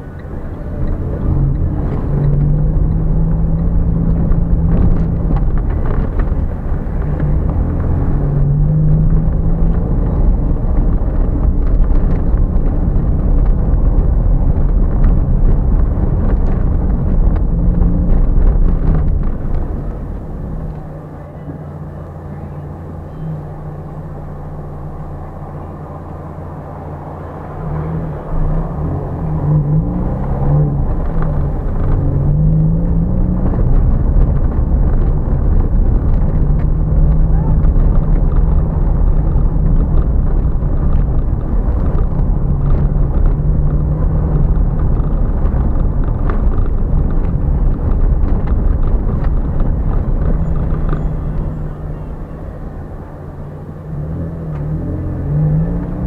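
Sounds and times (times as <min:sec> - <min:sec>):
car engine running: 0:00.0 - 0:56.0
tyres rumbling on cobblestones: 0:00.0 - 0:56.0.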